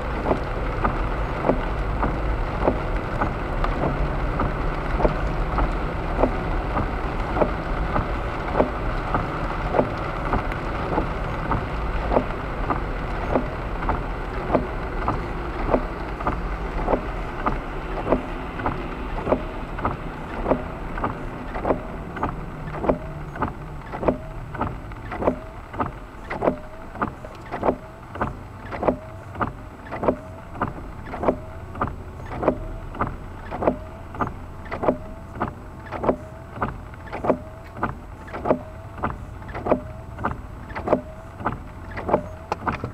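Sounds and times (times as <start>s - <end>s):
tyres hissing on wet road: 0.0s - 42.9s
turn signal clicking: 0.1s - 42.9s.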